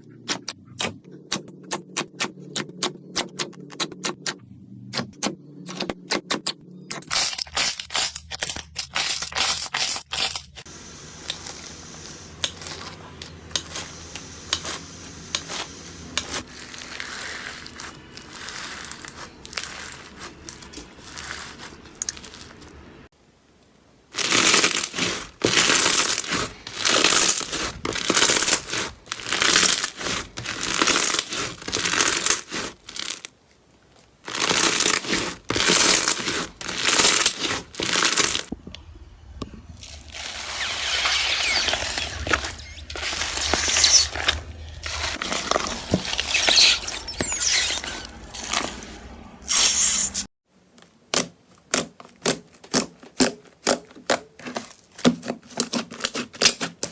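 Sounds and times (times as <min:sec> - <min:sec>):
slime squishing and crackling: 0:06.9 - 0:22.9, 0:24.1 - 0:38.5, 0:39.7 - 0:49.6, 0:51.0 - 0:56.9.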